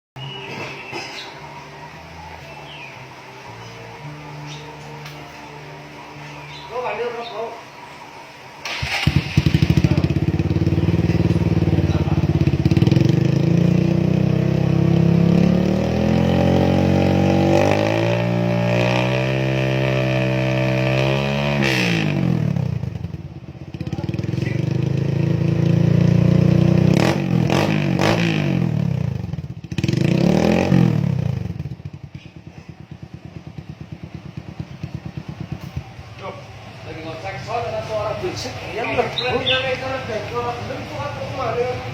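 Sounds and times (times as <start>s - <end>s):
motorcycle engine idling and revving: 0.2s - 41.9s.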